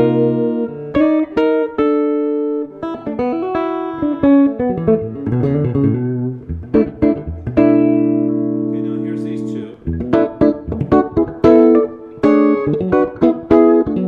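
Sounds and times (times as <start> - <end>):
clean electric guitar: 0.0 - 14.0.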